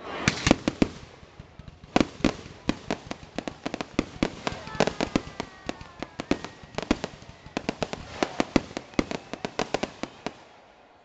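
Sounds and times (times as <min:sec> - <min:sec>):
fireworks crackling and popping: 0:00.0 - 0:10.7.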